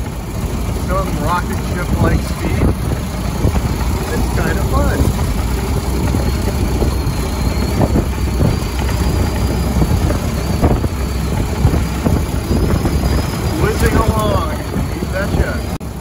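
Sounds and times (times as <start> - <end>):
old car engine running: 0.0 - 16.0
road noise rumble: 0.0 - 16.0.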